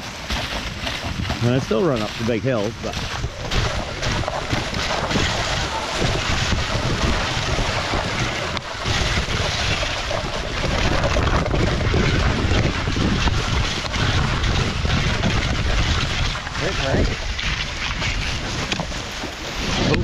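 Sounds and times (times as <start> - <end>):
sled runners hissing on snow: 0.0 - 20.0
wind buffeting microphone: 0.0 - 20.0.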